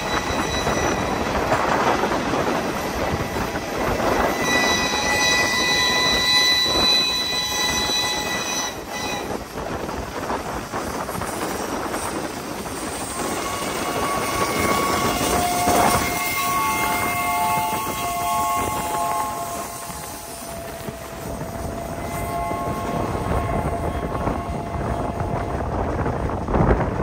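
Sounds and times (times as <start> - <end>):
train chime horn: 0.0 - 9.4, 13.1 - 25.7
lower-pitched train chime horn: 0.0 - 9.5, 13.1 - 25.8
train wheel clatter and rumble: 0.0 - 27.0.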